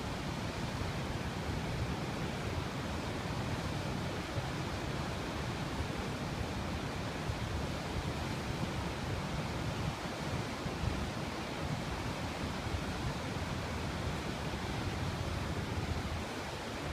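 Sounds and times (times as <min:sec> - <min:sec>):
river rapids rushing: 0:00.0 - 0:16.9.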